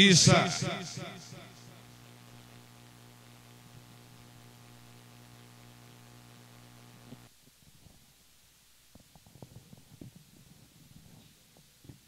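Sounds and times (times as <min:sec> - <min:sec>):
faint electrical hum: 0:00.0 - 0:12.0
low hiss: 0:00.0 - 0:12.0.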